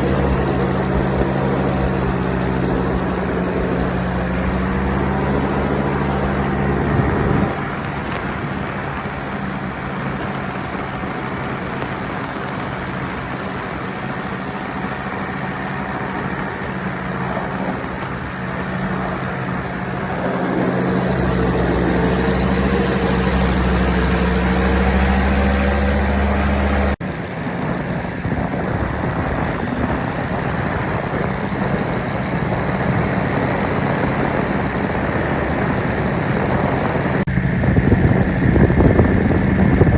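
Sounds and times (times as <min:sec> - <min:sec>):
paramotor engine humming: 0:00.0 - 0:39.9
wind rushing on microphone: 0:00.0 - 0:39.9.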